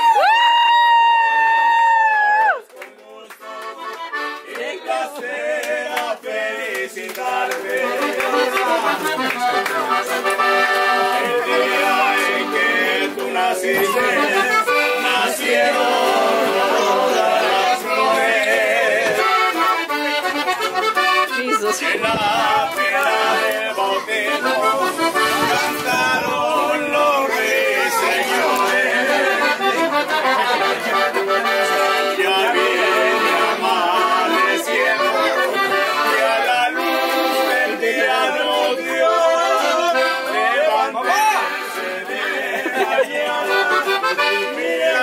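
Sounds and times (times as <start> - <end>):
accordion melody: 3.1 - 45.0
guitar accompaniment: 7.7 - 38.0, 38.7 - 45.0.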